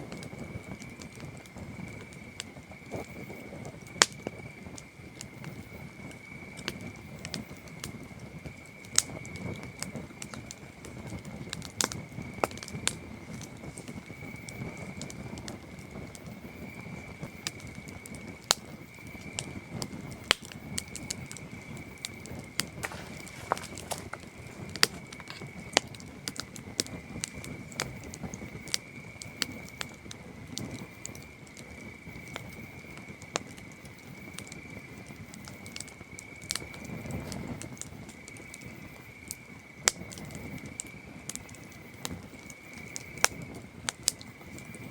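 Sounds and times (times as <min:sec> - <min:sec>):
campfire wood crackling and popping: 0:00.0 - 0:44.9
low rumble of fire: 0:00.0 - 0:44.9
crickets chirring: 0:00.1 - 0:44.9.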